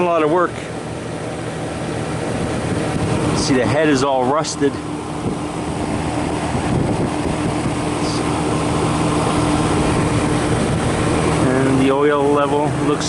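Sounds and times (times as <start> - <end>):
condenser fan rushing air: 0.0 - 13.0
refrigeration compressor humming: 0.0 - 13.0.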